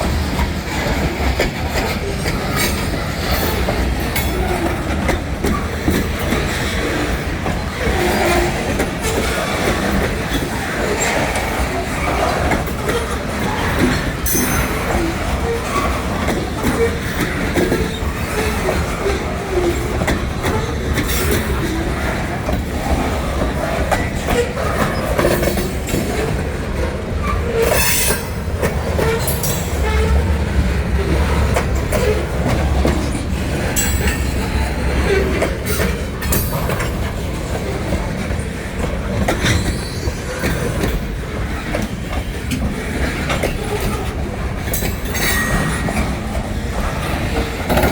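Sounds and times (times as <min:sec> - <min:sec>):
train wheel squeals: 0:00.0 - 0:38.0, 0:39.1 - 0:47.9
low rumble of train: 0:00.0 - 0:47.9
train wheels clicking over rail joints: 0:00.0 - 0:47.9.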